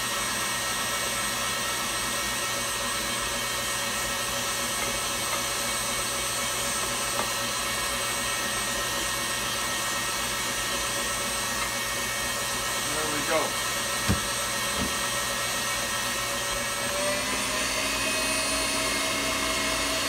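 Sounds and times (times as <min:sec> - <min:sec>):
stand mixer motor whining: 0:00.0 - 0:20.0.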